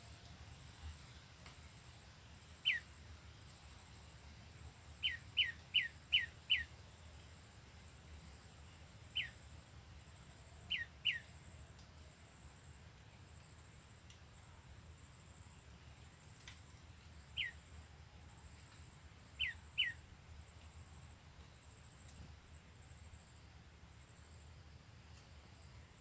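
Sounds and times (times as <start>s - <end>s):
songbird chirping: 0.0s - 7.0s, 7.8s - 22.2s.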